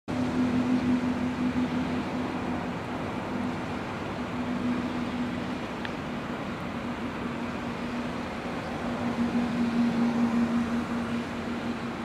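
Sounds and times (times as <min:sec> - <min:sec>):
traffic hum and rumble: 0:00.1 - 0:12.0.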